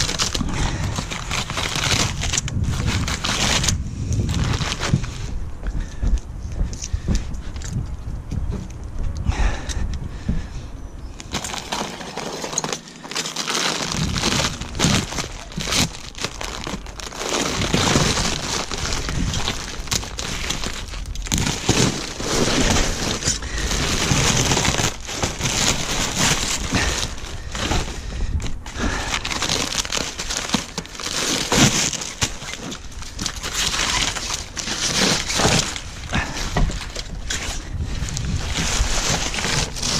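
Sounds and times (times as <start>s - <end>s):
paper crinkling and tearing: 0.0s - 5.3s, 11.2s - 39.9s.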